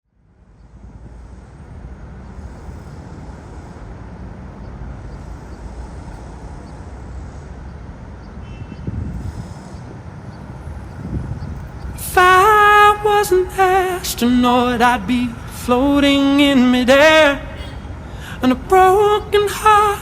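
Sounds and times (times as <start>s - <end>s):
vehicle rumbling: 0.1s - 20.0s.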